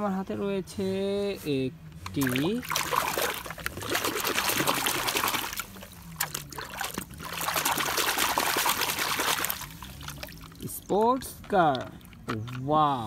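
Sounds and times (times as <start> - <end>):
water splashing and sloshing: 2.0 - 13.0.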